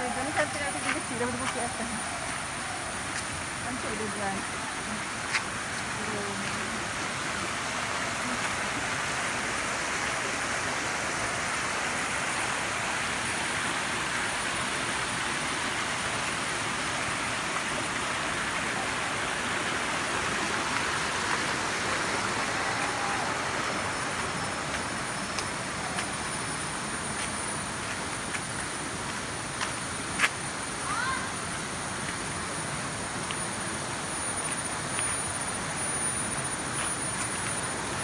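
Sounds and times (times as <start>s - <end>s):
high insect trill: 0.0s - 38.0s
water rushing from small waterfall: 0.2s - 38.0s.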